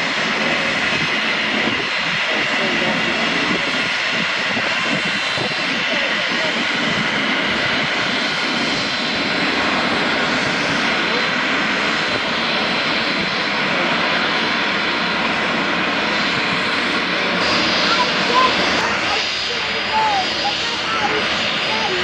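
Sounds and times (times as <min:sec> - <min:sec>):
aircraft engine running: 0:00.0 - 0:22.0
high engine whine: 0:00.0 - 0:22.0.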